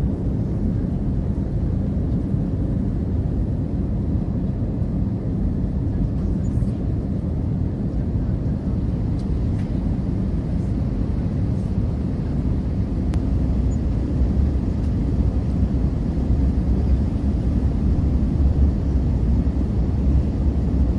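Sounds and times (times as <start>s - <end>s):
jet airliner rumble: 0.0s - 20.9s.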